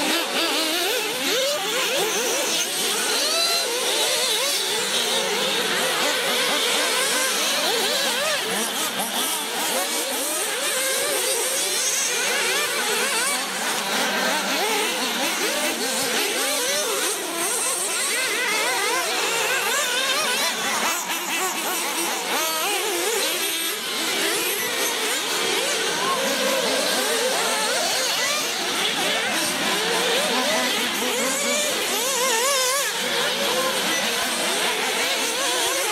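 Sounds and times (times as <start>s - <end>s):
rc car engines revving: 0.0s - 35.9s.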